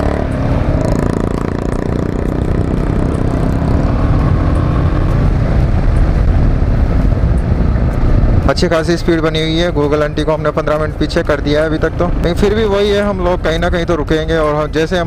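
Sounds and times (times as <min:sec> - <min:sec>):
motorcycle engine accelerating: 0:00.0 - 0:14.6
wind noise on microphone: 0:00.3 - 0:14.4.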